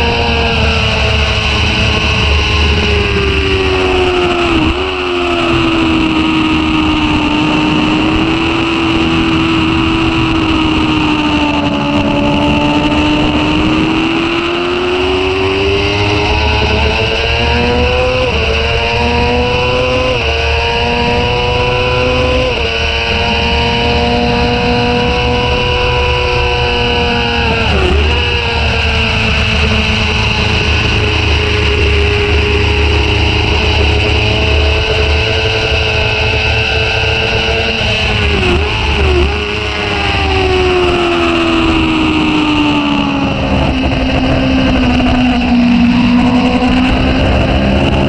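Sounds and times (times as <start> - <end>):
motorcycle engine revving: 0.0 - 48.0
wind rush over microphone: 0.0 - 48.0.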